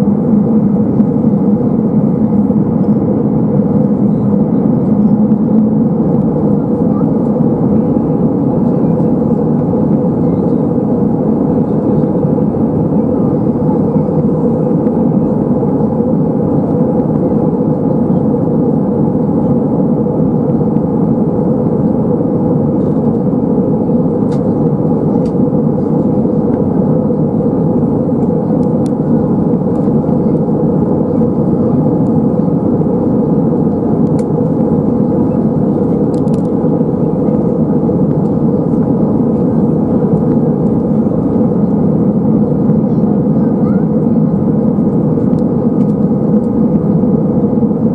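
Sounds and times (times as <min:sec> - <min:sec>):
airflow past fuselage: 0:00.0 - 0:47.9
jet engine cabin roar: 0:00.0 - 0:47.9.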